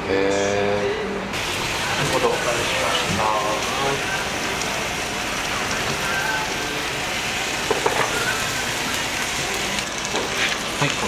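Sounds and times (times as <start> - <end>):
food sizzling on hot iron plate: 1.4 - 11.0.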